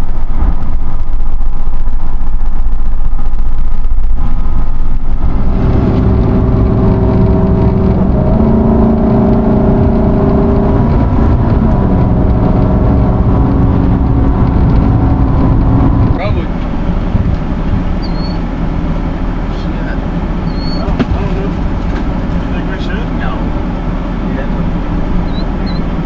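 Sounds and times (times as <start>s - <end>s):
car engine drone: 0.0s - 26.0s
road and wind rumble: 0.0s - 26.0s.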